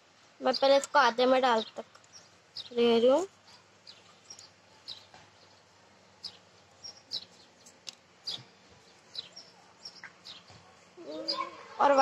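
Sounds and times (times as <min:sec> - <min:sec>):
birds chirping: 0:00.4 - 0:12.0.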